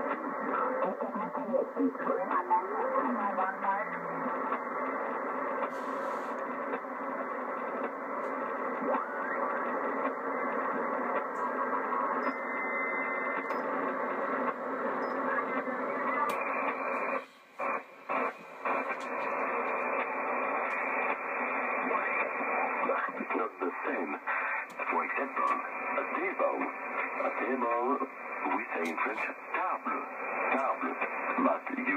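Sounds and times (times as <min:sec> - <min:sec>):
faint radio signals: 0:00.0 - 0:31.9
radio band noise and static: 0:00.0 - 0:31.9.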